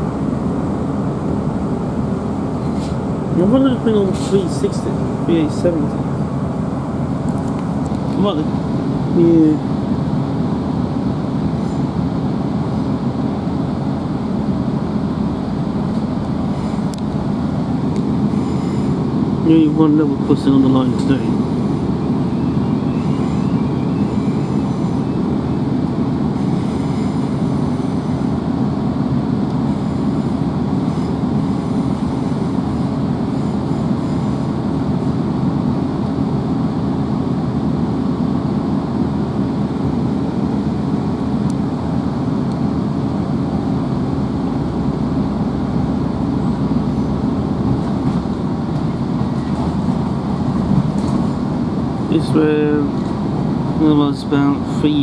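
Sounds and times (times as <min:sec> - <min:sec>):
diesel engine drone: 0:00.0 - 0:55.0
train wheels rumbling on rails: 0:00.0 - 0:55.0.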